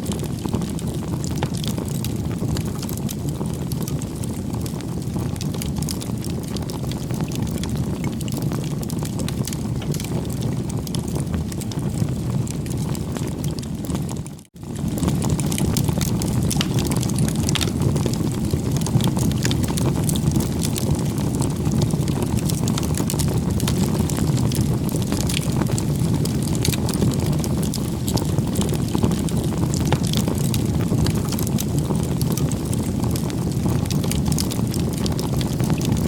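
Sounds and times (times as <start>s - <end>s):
campfire crackling: 0.0s - 36.0s.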